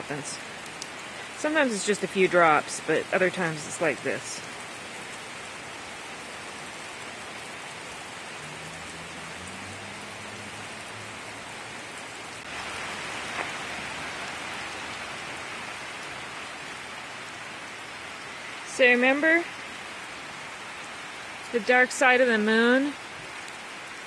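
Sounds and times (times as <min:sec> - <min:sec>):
heavy rain on wet pavement: 0:00.0 - 0:24.0.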